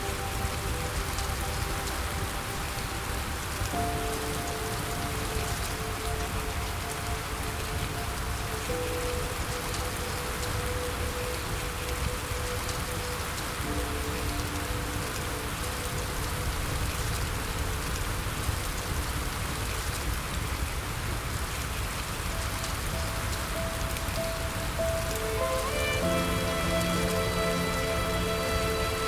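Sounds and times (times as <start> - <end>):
soft background music: 0.0 - 29.0
steady rain hiss: 0.0 - 29.0.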